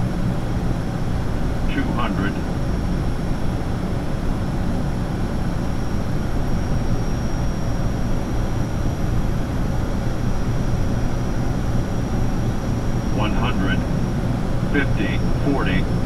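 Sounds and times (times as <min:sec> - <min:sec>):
high whine: 0:00.0 - 0:16.0
propeller engines droning: 0:00.0 - 0:16.0.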